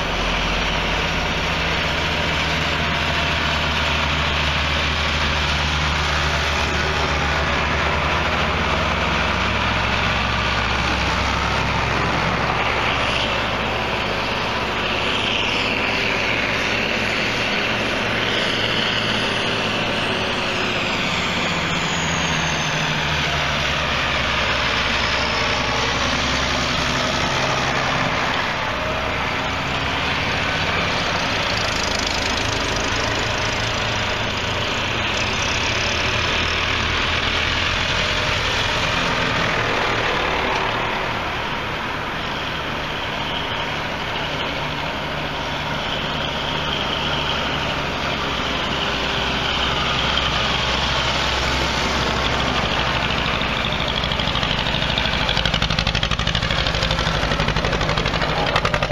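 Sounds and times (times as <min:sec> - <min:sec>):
tractor engines passing: 0:00.0 - 0:58.9.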